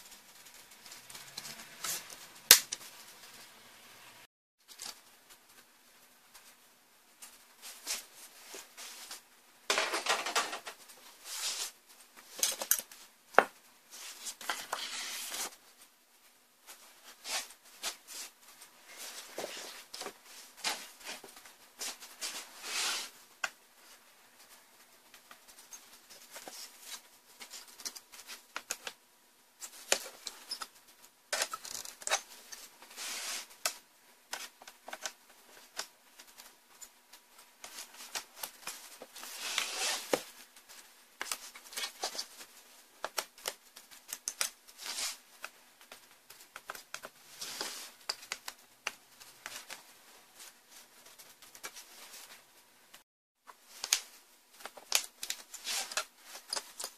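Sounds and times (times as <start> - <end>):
scraping and rustling: 6.3 - 13.1, 13.9 - 15.8, 16.6 - 29.0, 29.6 - 52.6, 53.5 - 56.9.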